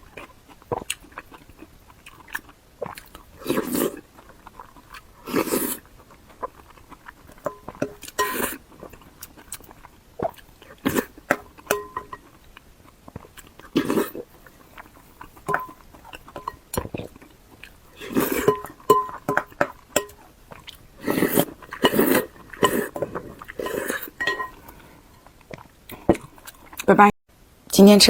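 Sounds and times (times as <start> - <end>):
biting and wet chewing: 0.0 - 27.0.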